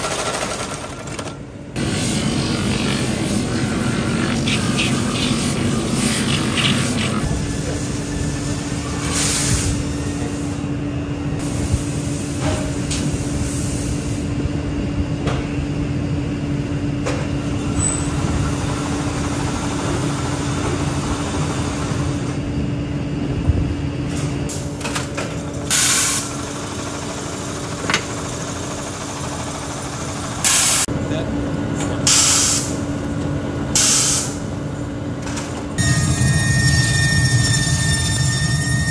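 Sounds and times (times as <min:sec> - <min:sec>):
factory machinery hum: 0:00.0 - 0:38.9.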